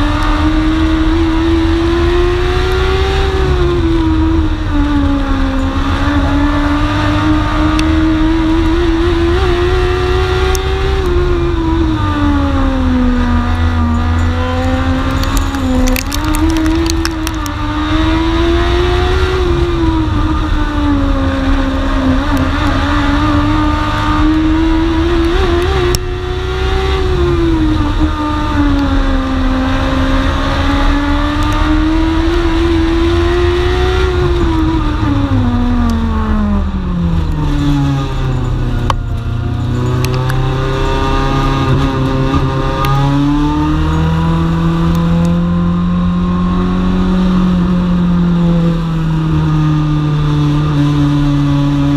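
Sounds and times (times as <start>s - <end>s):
race car engine: 0.0s - 51.9s.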